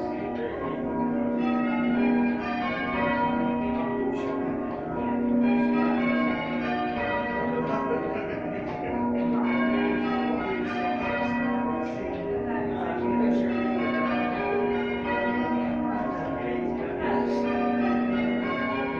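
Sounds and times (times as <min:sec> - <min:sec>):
church bells ringing: 0:00.0 - 0:18.9.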